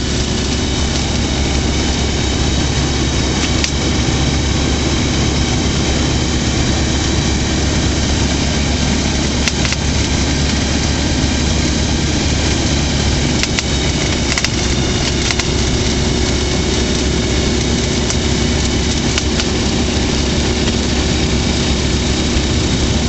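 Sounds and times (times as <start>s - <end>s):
aircraft engine running steadily: 0.0s - 23.0s.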